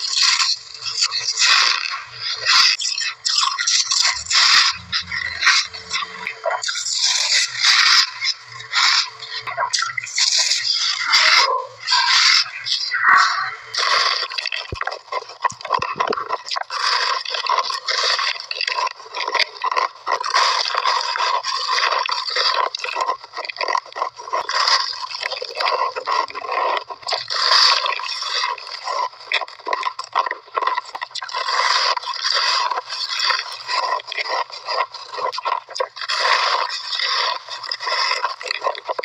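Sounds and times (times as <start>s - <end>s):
chewing crunchy ice: 0.0s - 39.0s.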